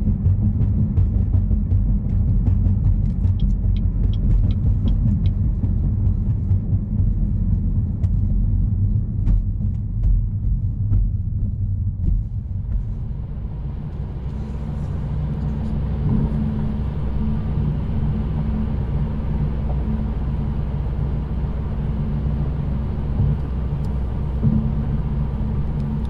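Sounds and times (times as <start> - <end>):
car exhaust drone: 0.0 - 26.0.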